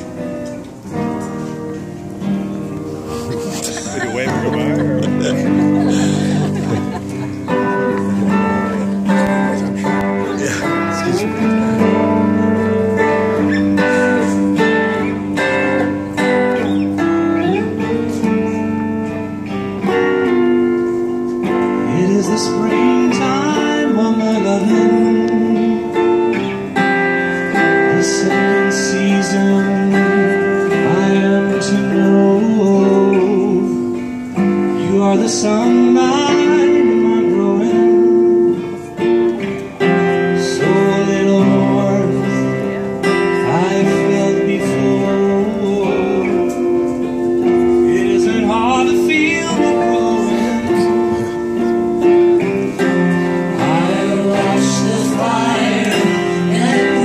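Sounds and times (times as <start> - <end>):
strummed guitars: 0.0 - 57.0.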